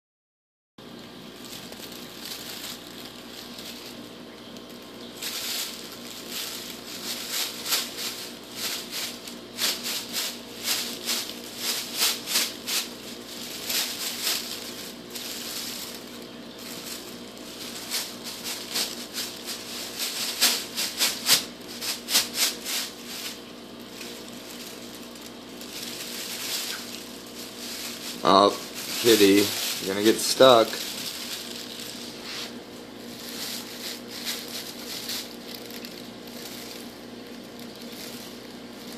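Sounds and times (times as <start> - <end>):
plastic bag rustling and crinkling: 0.8 - 38.9.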